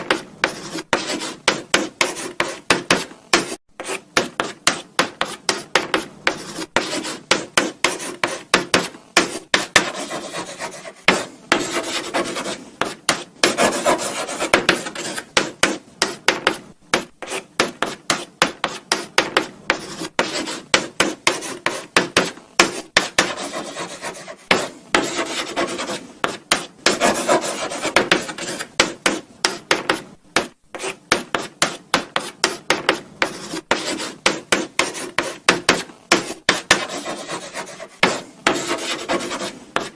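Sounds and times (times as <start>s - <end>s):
chalk scratching on blackboard: 0.0s - 39.9s.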